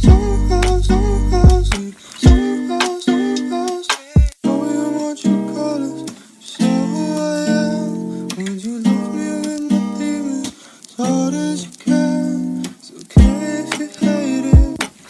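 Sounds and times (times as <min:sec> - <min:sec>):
acoustic guitar chords: 0:00.0 - 0:14.9.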